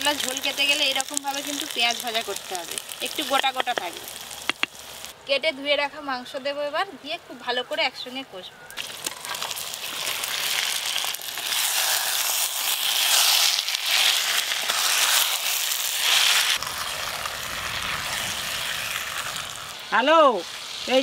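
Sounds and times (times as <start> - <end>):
chicken sizzling in hot oil: 0.0 - 5.2, 8.8 - 21.0.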